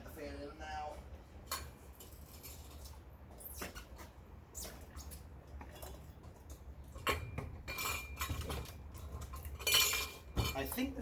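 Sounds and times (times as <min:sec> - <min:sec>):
fan parts scraping and clicking: 0:00.9 - 0:11.0.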